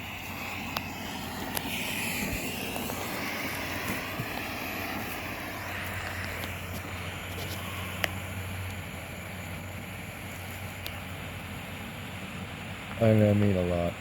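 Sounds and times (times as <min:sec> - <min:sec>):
smoke grenade hissing: 0:00.0 - 0:13.1.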